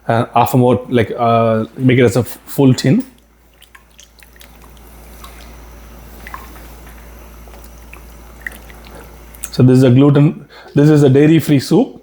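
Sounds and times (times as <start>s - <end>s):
broth simmering and bubbling: 0.0s - 9.7s.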